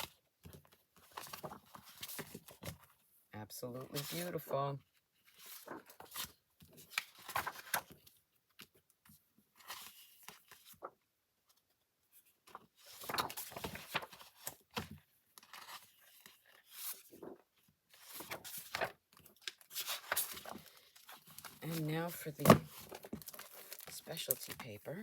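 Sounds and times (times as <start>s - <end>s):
paper rustling and crinkling: 0.5s - 3.0s, 5.2s - 11.0s, 12.2s - 25.0s.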